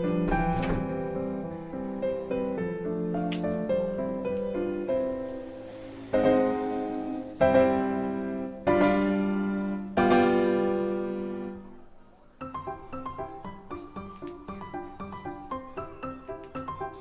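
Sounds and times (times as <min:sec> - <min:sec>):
piano music with chords: 0:00.0 - 0:17.0.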